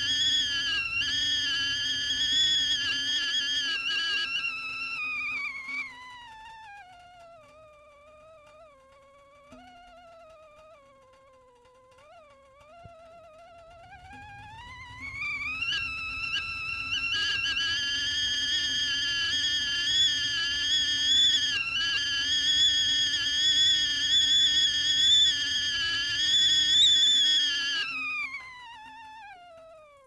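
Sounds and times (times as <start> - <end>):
kettle whistling: 0.0 - 6.8, 7.4 - 30.0.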